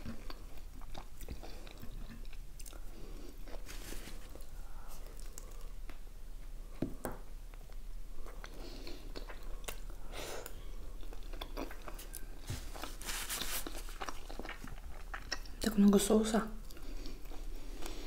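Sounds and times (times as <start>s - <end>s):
person chewing food: 0.0s - 15.6s, 16.6s - 18.0s.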